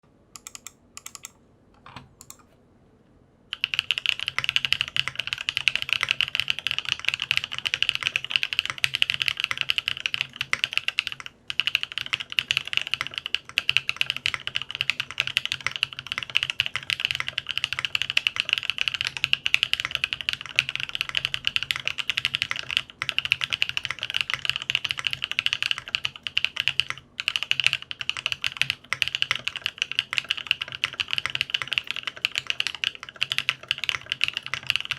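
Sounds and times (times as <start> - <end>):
mechanical keyboard typing: 0.4 - 2.5, 3.5 - 34.9.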